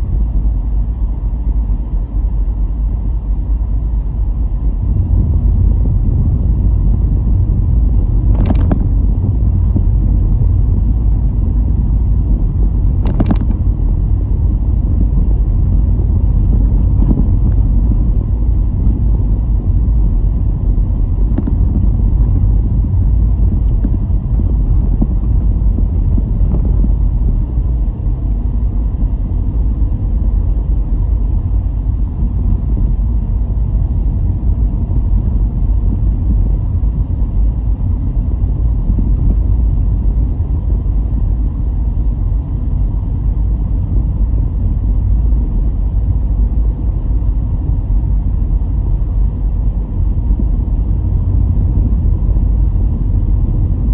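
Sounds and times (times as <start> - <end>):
car engine and tyre noise: 0.0 - 53.9.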